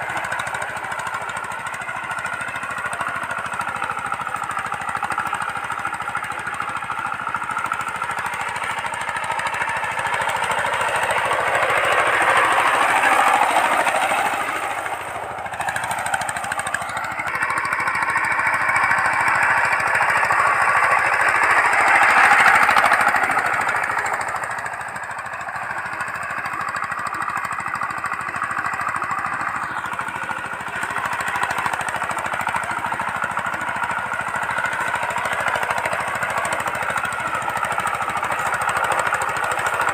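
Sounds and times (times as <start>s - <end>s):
walking tractor diesel engine: 0.0s - 39.9s.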